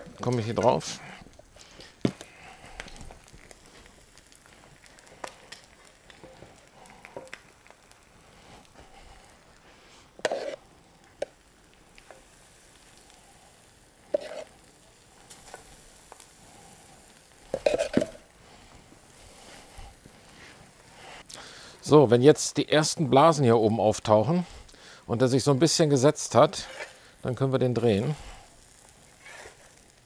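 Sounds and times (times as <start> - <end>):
pancake sizzling in fat: 0.0 - 30.0.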